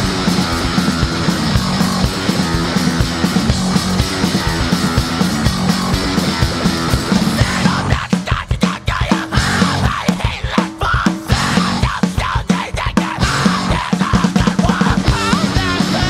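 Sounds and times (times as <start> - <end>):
fast punk rock band playing: 0.0 - 16.0.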